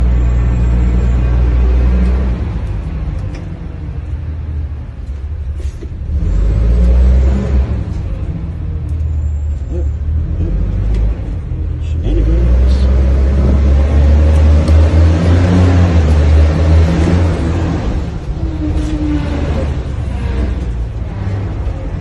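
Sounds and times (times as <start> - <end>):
engine rumbling and revving: 0.0 - 22.0.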